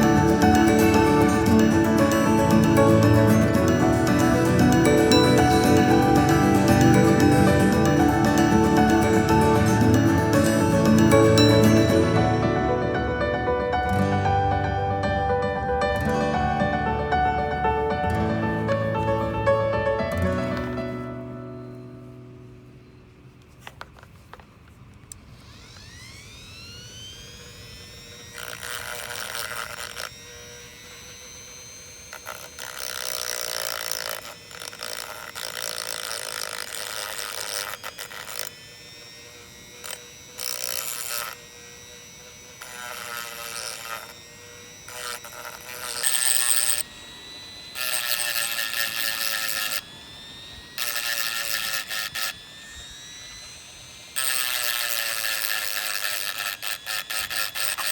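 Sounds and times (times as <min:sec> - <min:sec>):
electric motor whining: 0:00.0 - 0:57.9
power tool grinding metal: 0:00.0 - 0:57.9.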